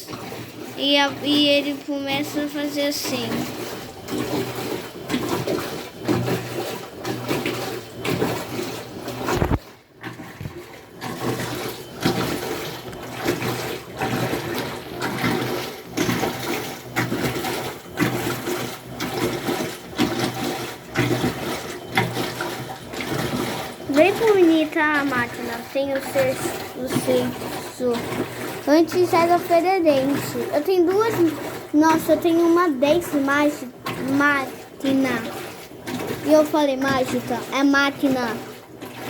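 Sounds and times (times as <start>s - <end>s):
washing machine water sloshing: 0.0s - 39.0s.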